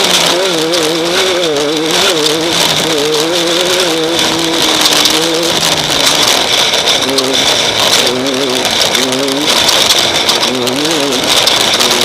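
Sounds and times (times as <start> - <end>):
race car engine running hard: 0.0 - 12.0
steady hiss: 0.0 - 12.0.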